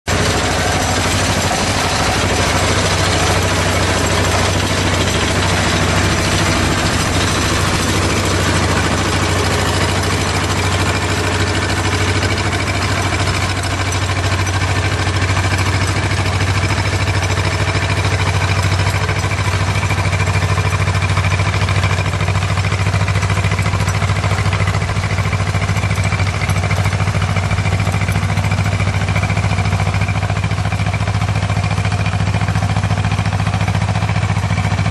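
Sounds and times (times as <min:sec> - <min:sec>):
harvester engine running: 0:00.0 - 0:34.9.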